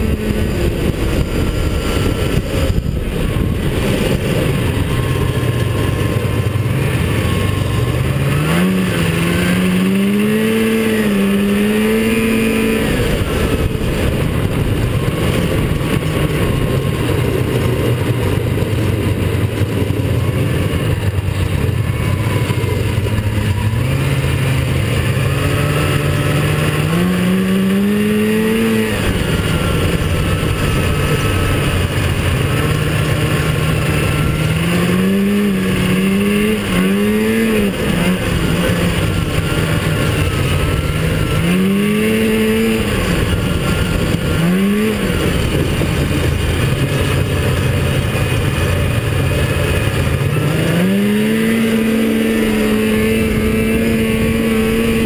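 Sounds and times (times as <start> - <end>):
rushing noise: 0.0 - 55.0
snowmobile engine revving: 0.0 - 55.0.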